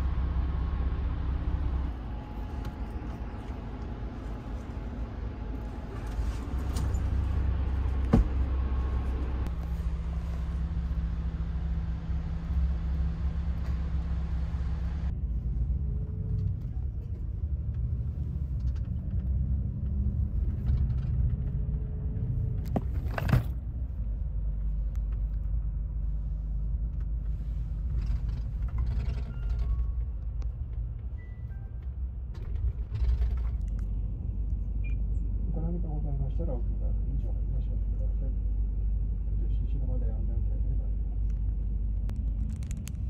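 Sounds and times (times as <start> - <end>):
bus interior rumble: 0.0 - 43.0.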